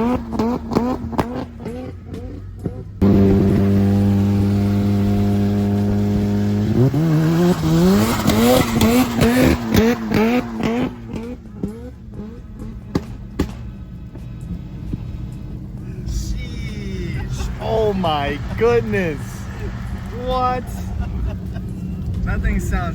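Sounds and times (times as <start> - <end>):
exhaust pops: 0.0 - 22.9
rotary engine revving: 0.0 - 22.9.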